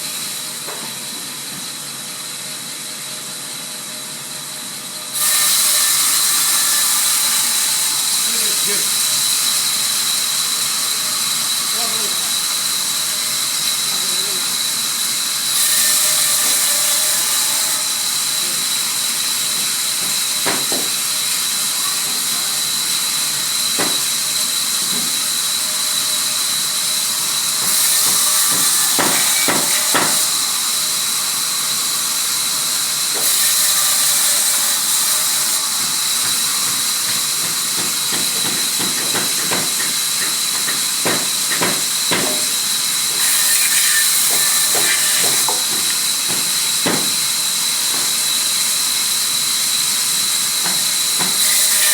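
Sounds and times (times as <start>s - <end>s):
sawmill machinery hissing and whining: 0.0s - 51.9s.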